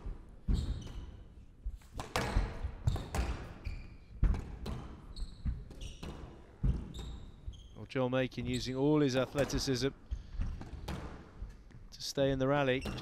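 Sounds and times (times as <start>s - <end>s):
squash ball striking rackets and walls: 0.0s - 7.6s, 9.1s - 11.9s, 12.8s - 13.0s
shoes squeaking on court floor: 0.0s - 13.0s.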